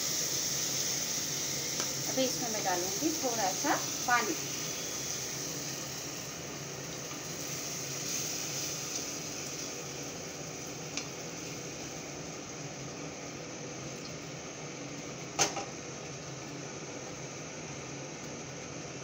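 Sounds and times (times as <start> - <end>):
food sizzling in a pot: 0.0 - 17.9.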